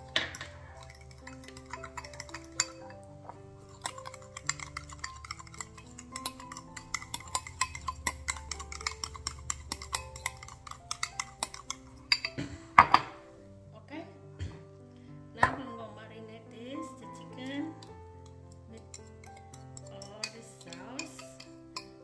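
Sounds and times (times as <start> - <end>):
spoon clinking against glass bowl: 0.0 - 13.1, 17.3 - 22.0
background music: 0.0 - 22.0.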